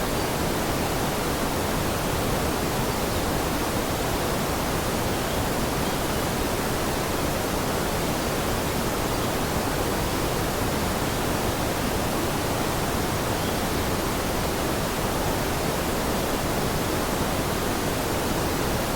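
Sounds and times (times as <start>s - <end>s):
rushing water: 0.0s - 18.9s.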